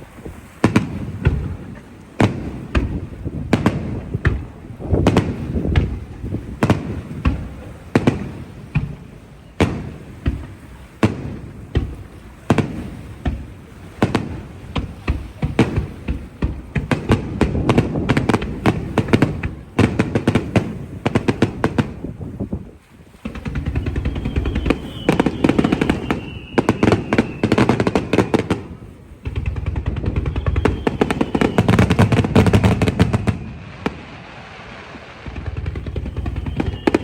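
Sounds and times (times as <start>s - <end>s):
fireworks bangs with echo: 0.0s - 37.0s
fireworks crackling barrage: 0.0s - 37.0s.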